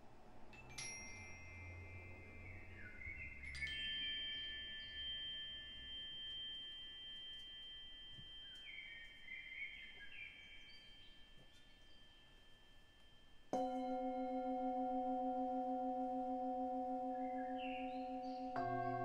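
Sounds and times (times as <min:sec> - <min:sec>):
metal chimes ringing: 0:00.5 - 0:19.0.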